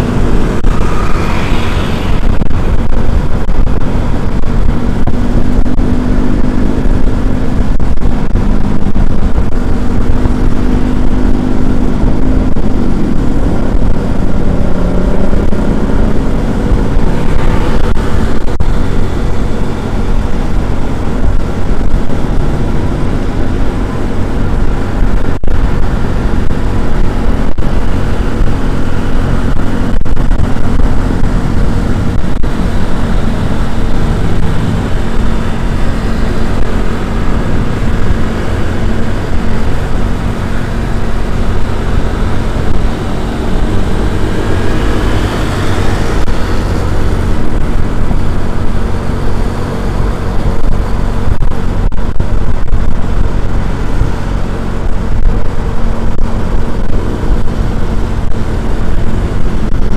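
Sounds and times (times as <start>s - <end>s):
rising whine: 0.0s - 59.9s
road and wind noise: 0.0s - 59.9s
vehicle engine hum: 0.0s - 59.9s.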